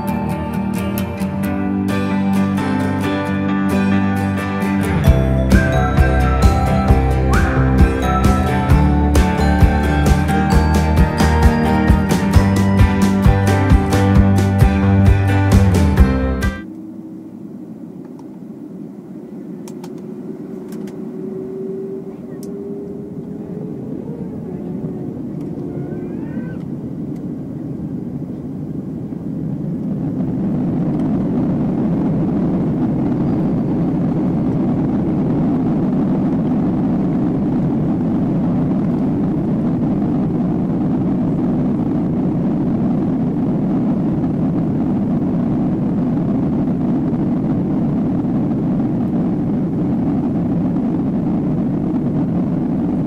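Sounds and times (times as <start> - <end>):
jet engines spooling up: 4.4 - 53.0.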